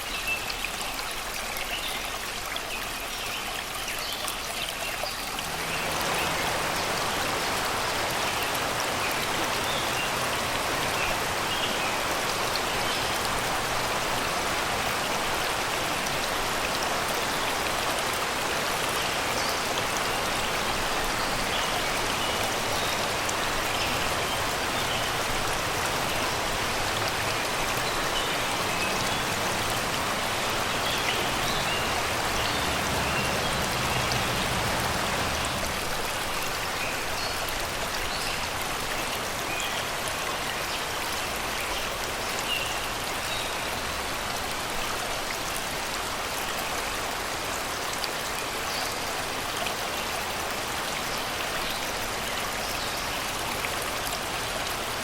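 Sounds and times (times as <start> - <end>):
river water babbling over rocks: 0.0 - 55.0.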